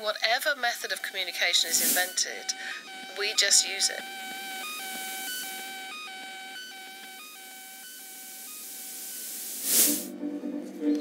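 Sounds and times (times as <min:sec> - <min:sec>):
short electronic blips: 0:01.0 - 0:10.1
steady electronic tone: 0:01.0 - 0:10.1.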